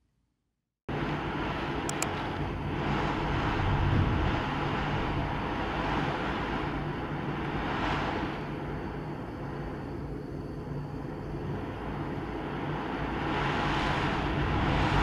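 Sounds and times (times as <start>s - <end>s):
deep rumble: 0.9s - 15.0s
storm wind and rain: 0.9s - 15.0s.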